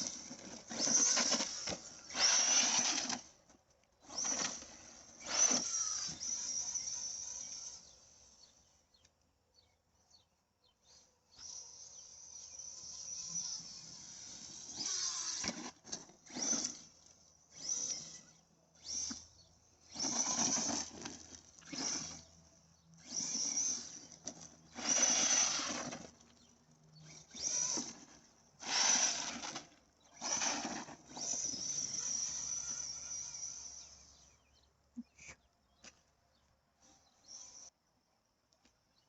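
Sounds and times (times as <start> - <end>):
rc truck motor and tyre bursts: 0.0 - 9.0, 10.7 - 35.4, 36.8 - 37.8.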